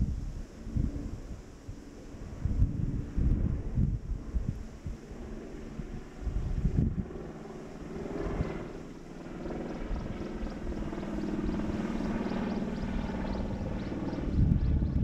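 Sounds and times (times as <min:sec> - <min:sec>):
wind buffeting microphone: 0:00.0 - 0:15.0
motor droning with rapid pulse: 0:02.2 - 0:15.0.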